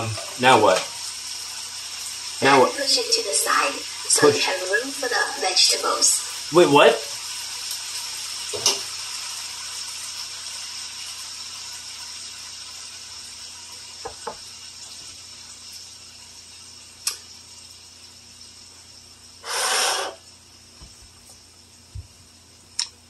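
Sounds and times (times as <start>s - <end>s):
chicken sizzling in oil: 0.0s - 20.8s.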